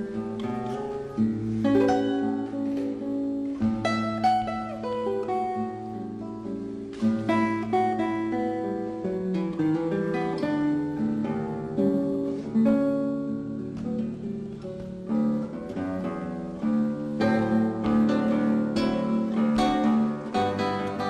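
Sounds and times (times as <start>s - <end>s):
acoustic guitar plucked notes: 0.0s - 21.0s.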